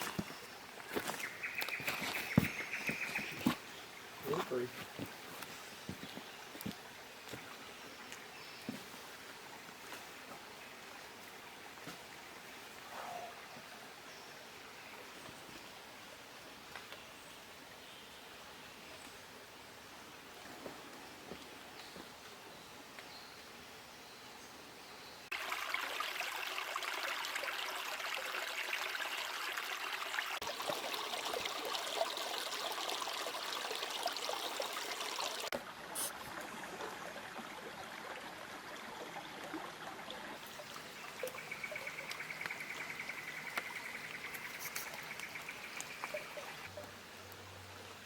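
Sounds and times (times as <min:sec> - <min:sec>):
creek trickling over rocks: 0:00.0 - 0:22.4, 0:25.3 - 0:48.0.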